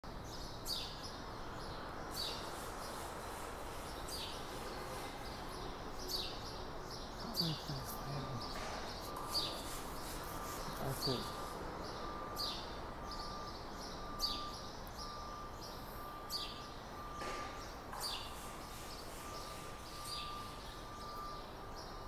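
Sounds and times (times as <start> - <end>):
steady background hum: 0.1 - 22.0
small bird chirping: 0.2 - 22.0.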